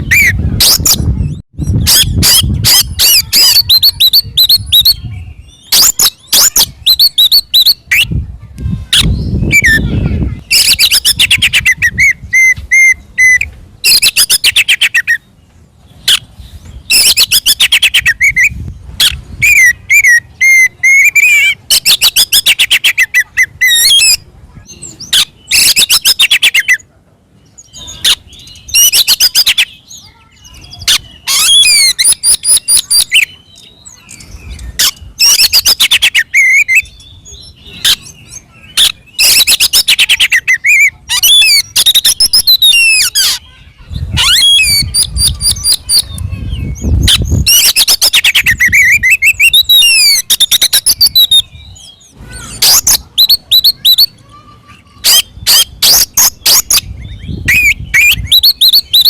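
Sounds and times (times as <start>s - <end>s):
bird singing trills and whistles: 0.0s - 8.2s, 8.8s - 59.0s.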